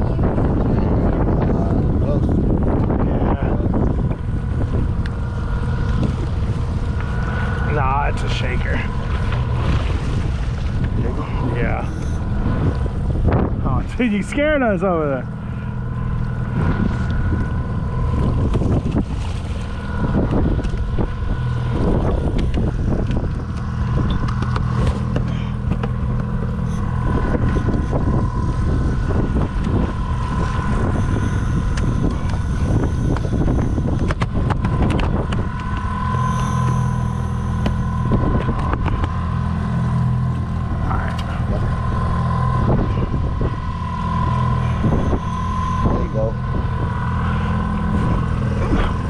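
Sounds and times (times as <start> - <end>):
outboard motor running: 0.0 - 49.0
wind on microphone: 0.0 - 49.0.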